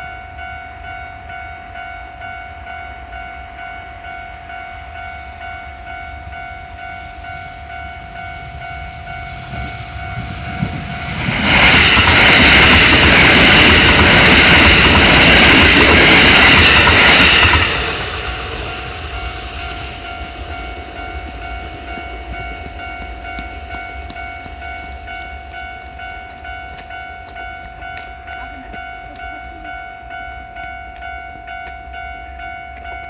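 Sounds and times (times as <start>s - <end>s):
level crossing warning bell: 0.0s - 33.0s
train rumbling over crossing: 0.0s - 33.0s.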